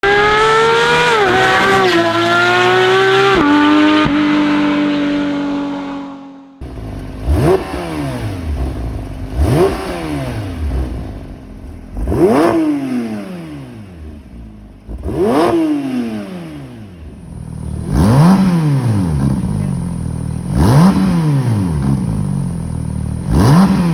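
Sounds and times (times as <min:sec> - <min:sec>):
car engine revving high: 0:00.0 - 0:23.9
engine throttle blips: 0:00.0 - 0:23.9.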